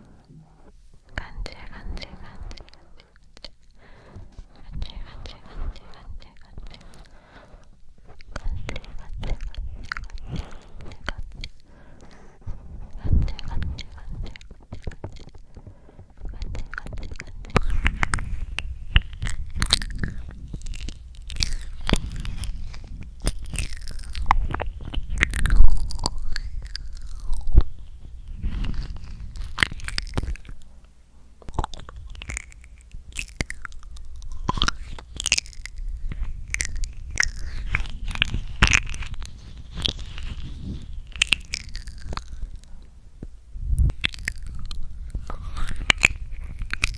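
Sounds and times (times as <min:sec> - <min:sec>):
wet mouth clicks and smacks: 0:08.0 - 0:46.9.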